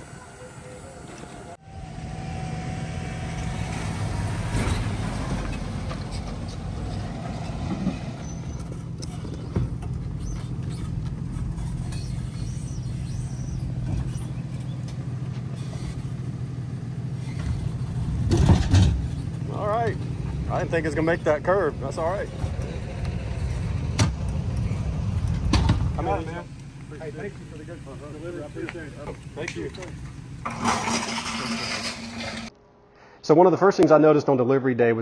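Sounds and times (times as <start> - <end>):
truck engine idling: 0.0 - 32.5.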